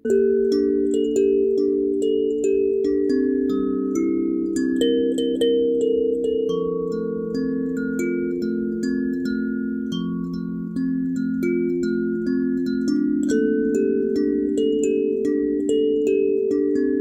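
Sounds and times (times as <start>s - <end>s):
slow held tones: 0.0s - 17.0s.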